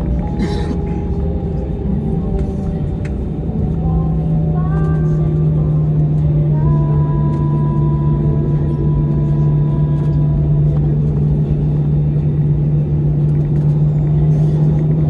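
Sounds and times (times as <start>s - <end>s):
airplane engine drone: 0.0s - 15.0s
low rumble of airflow: 0.0s - 15.0s.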